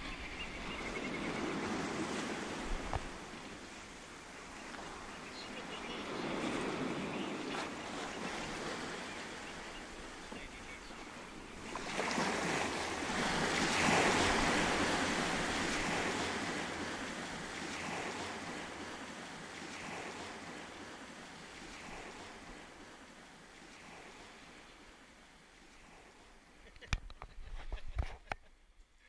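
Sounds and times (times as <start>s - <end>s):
waves washing over pebbles: 1.1s - 24.4s.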